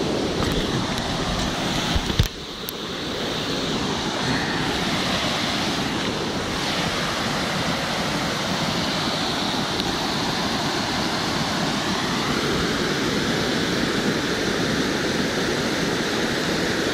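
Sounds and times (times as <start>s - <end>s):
water rushing over a weir: 0.0s - 16.9s.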